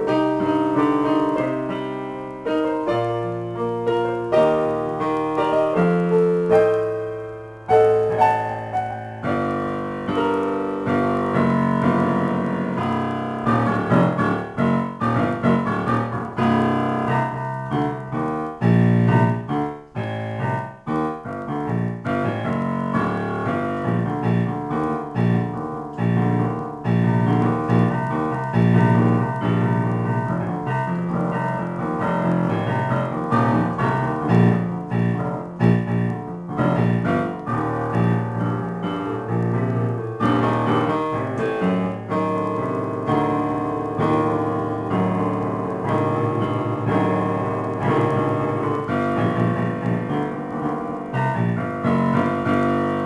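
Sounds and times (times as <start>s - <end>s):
digital piano chords: 0.0s - 53.0s.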